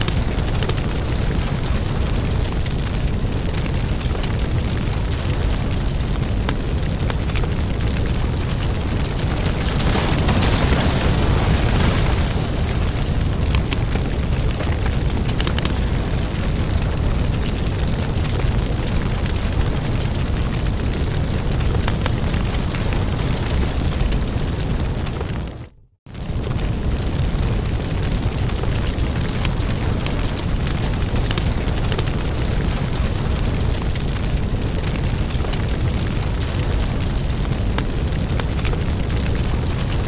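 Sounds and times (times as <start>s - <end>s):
fire crackling and popping: 0.0s - 40.0s
low rumble: 0.0s - 40.0s.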